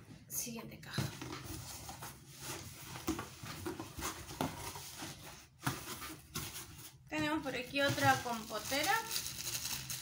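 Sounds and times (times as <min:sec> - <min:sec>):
cardboard packaging rustling: 0:01.2 - 0:10.0.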